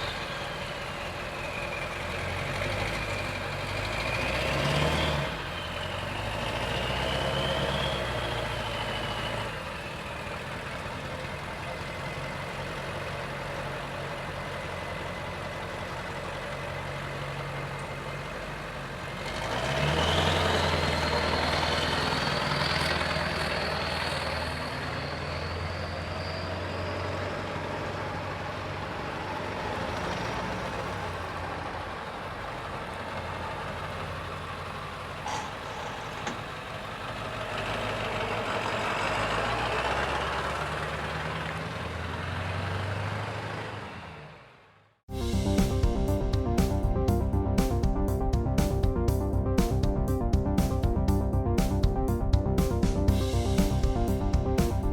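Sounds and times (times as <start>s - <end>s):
tow truck diesel engine revving: 0.0s - 54.9s.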